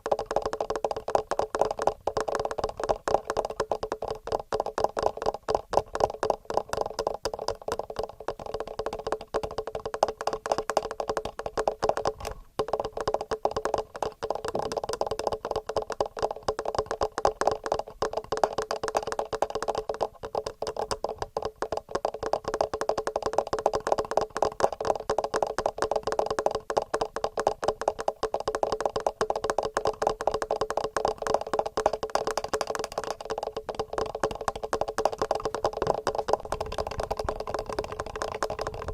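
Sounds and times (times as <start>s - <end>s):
fingernails tapping on microphone: 0.0s - 38.9s.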